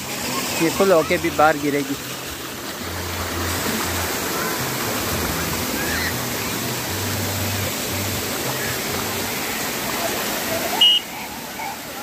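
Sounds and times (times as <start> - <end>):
water spraying and splashing: 0.0 - 12.0.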